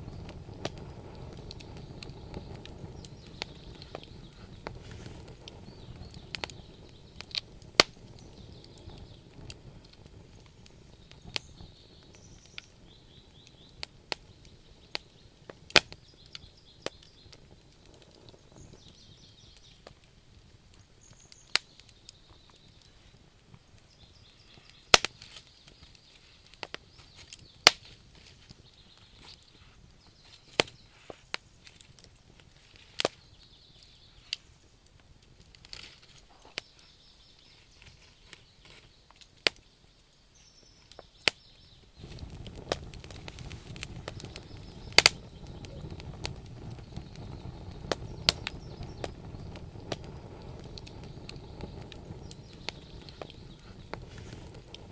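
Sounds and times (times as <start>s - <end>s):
low rush of burning: 0.0s - 38.8s, 41.8s - 54.9s
campfire crackling and popping: 0.0s - 54.9s.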